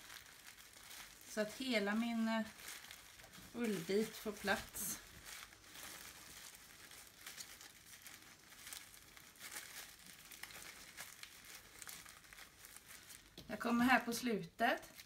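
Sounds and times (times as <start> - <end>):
plastic crinkling and rustling: 0.0 - 15.0.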